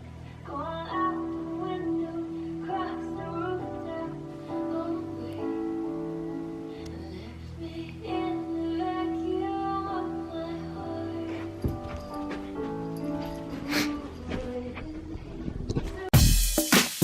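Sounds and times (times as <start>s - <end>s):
soft gentle music with light voice: 0.0s - 16.1s.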